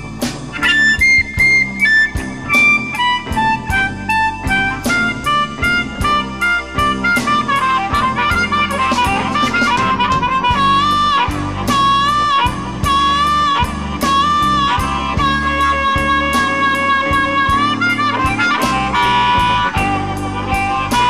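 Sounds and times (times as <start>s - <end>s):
blues band playing: 0.0s - 21.0s
wind instrument bending notes: 0.0s - 21.0s.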